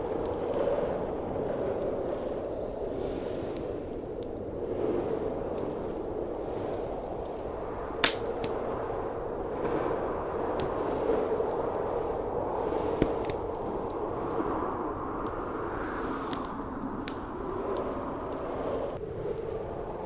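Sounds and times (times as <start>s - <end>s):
blizzard wind: 0.0s - 20.0s
wood fire crackling: 0.0s - 20.0s.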